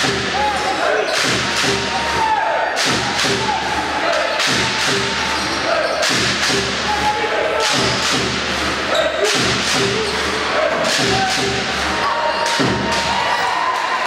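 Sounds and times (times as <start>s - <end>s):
players and crowd: 0.0s - 14.0s.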